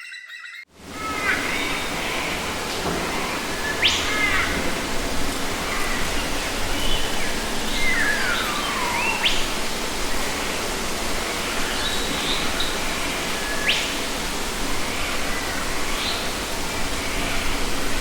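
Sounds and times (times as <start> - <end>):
wild birds calling: 0.0 - 18.0
steady rushing background noise: 0.7 - 18.0.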